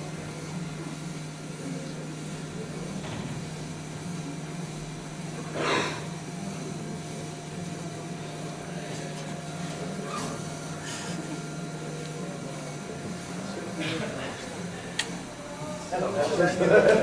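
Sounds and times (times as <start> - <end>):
machine low hum: 0.0 - 17.0.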